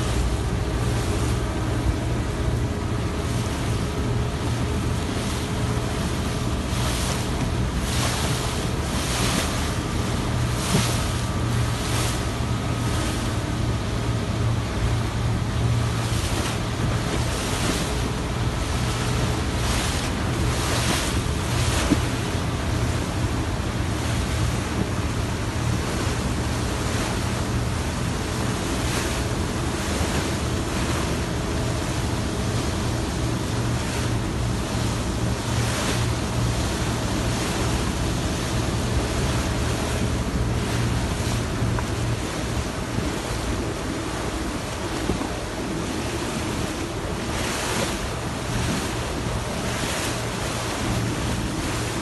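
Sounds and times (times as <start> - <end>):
boat engine humming: 0.0 - 52.0
water rushing and splashing: 0.0 - 52.0.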